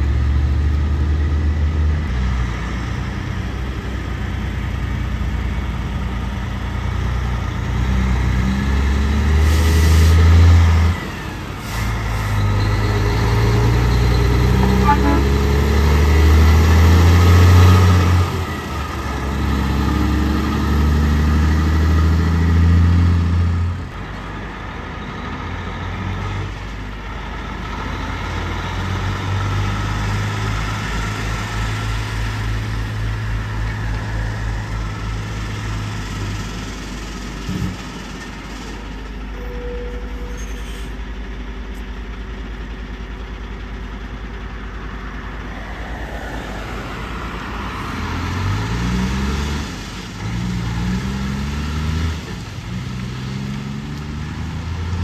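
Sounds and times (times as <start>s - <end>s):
diesel truck engines droning: 0.0s - 55.0s.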